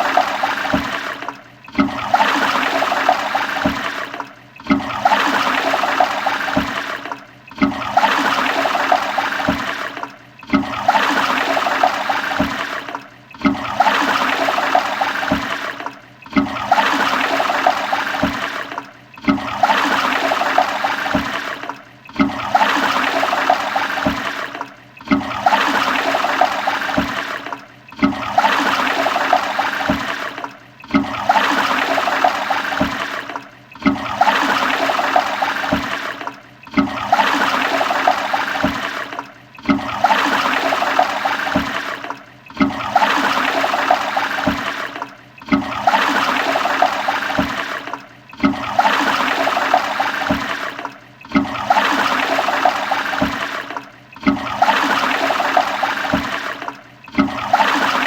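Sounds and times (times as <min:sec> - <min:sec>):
toilet flushing: 0:00.0 - 0:58.0.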